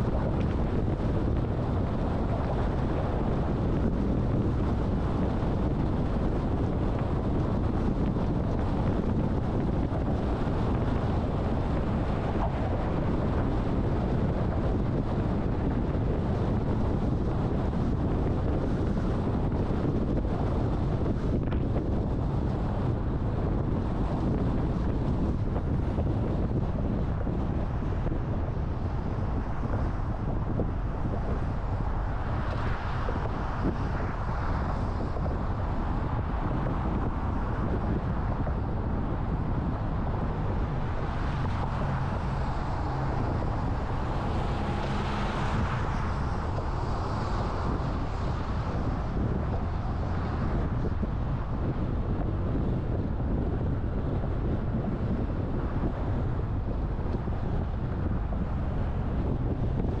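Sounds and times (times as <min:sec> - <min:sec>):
car road and wind noise: 0:00.0 - 1:00.0
wind buffeting microphone: 0:00.0 - 1:00.0.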